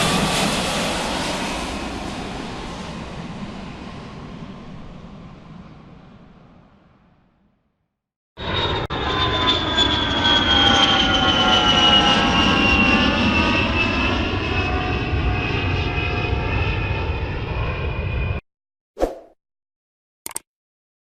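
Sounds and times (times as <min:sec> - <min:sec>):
airplane engine whine: 0:00.0 - 0:07.6, 0:08.4 - 0:18.4.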